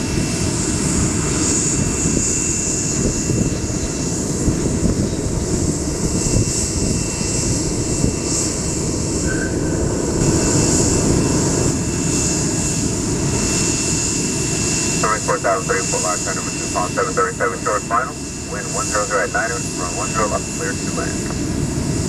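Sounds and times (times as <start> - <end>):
jet engine rumbling: 0.0 - 22.0.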